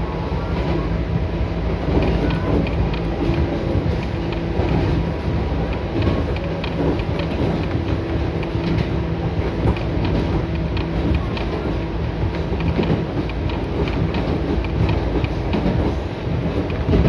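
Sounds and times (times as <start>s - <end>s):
train running gear rumble: 0.0s - 17.0s
wheels clicking on rails: 0.0s - 17.0s.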